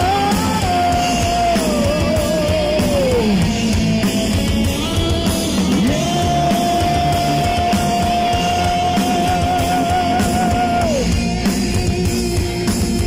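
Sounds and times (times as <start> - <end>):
heavy metal band playing live: 0.0 - 13.0
high lead guitar line: 0.0 - 13.0.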